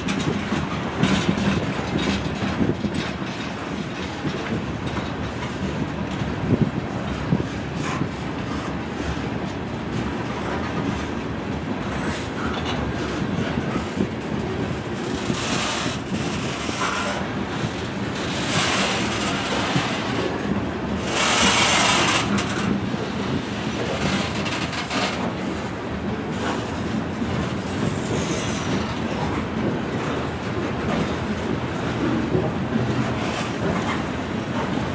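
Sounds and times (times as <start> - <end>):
freight train wheels rumbling: 0.0 - 34.9.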